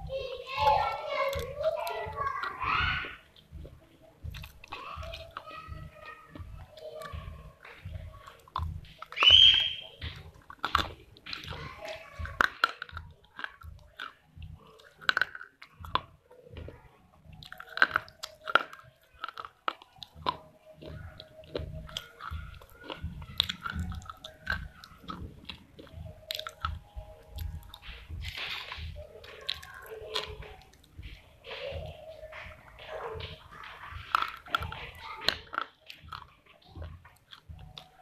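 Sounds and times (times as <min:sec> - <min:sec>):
crunchy chewing of clay: 0:00.0 - 0:38.0.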